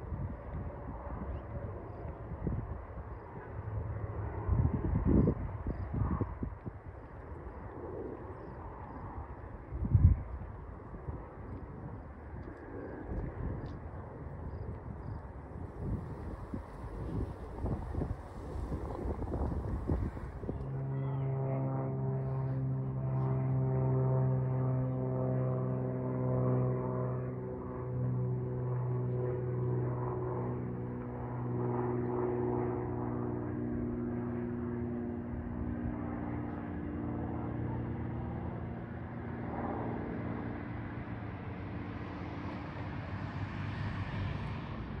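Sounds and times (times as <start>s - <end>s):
propeller airplane engine drone: 0.0s - 45.0s.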